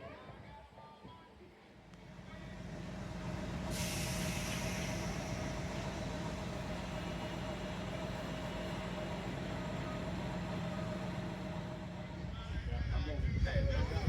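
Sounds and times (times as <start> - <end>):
diesel engine rumbling: 1.9 - 14.0.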